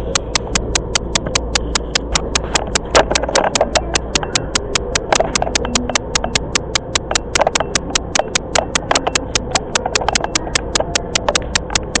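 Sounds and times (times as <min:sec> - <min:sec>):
fast even ticking clicks: 0:00.0 - 0:12.0.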